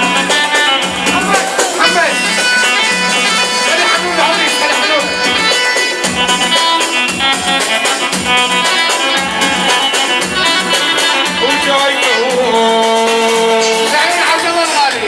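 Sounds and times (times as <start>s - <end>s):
party music melody: 0.0s - 14.6s
fast dense percussion: 0.0s - 15.0s.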